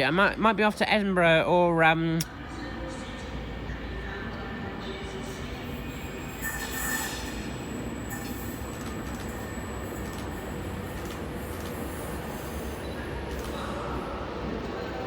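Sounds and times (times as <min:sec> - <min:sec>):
train rumbling into station: 0:02.2 - 0:15.0.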